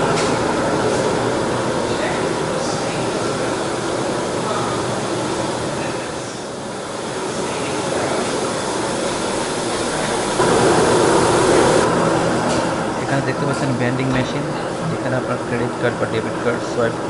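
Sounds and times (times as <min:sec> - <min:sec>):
rushing rumbling machine noise: 0:00.0 - 0:17.0.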